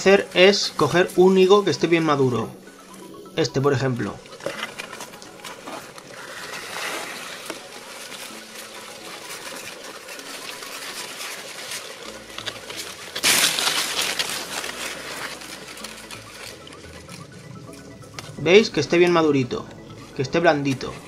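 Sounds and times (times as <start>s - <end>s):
leaves and branches rustling: 3.6s - 21.0s.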